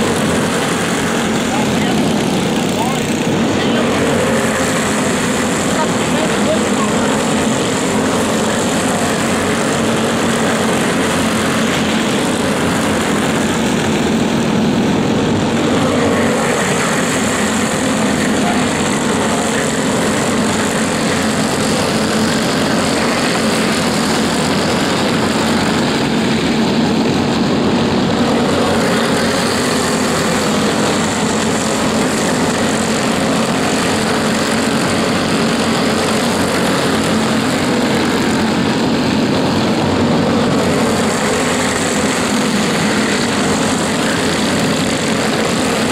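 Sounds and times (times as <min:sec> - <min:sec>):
go-kart engines buzzing: 0:00.0 - 0:45.9.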